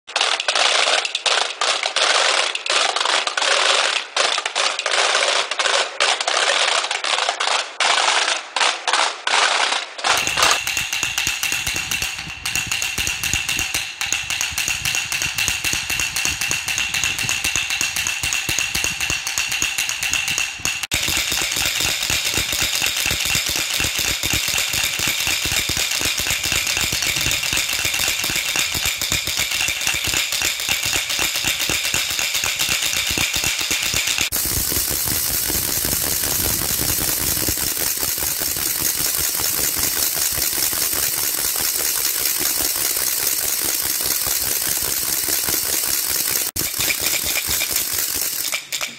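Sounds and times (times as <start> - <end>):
wooden clappers rattling: 0.1 - 48.9.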